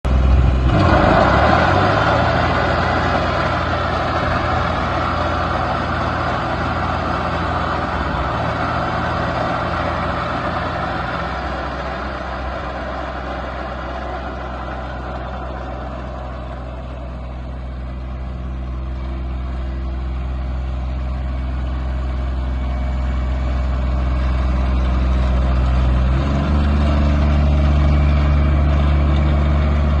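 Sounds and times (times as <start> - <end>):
mower diesel engine running: 0.0 - 30.0.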